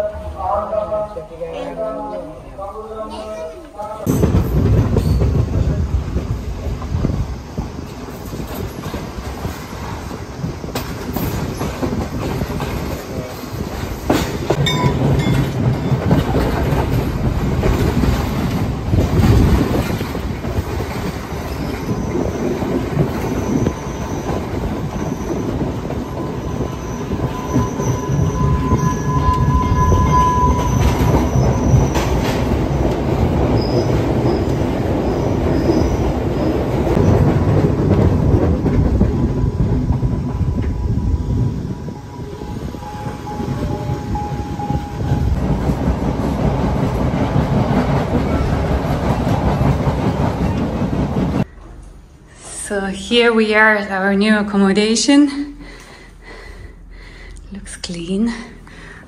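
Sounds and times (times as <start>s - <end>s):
train wheels rumbling on track: 3.8s - 53.1s.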